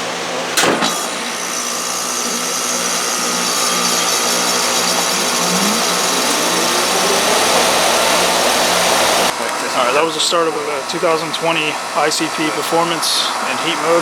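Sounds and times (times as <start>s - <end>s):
compressor and fan whirring: 0.0s - 14.0s
heat pump clunk: 0.0s - 14.0s.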